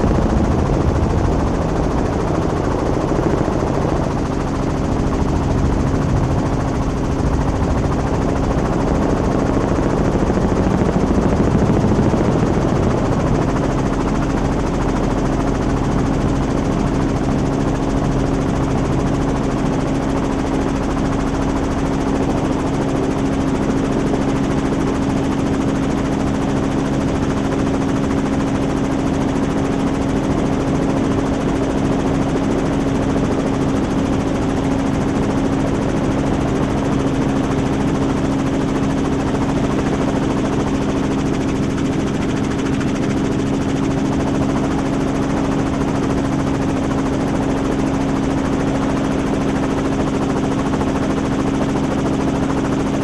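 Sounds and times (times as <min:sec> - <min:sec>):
helicopter rotor and engine: 0:00.0 - 0:53.0.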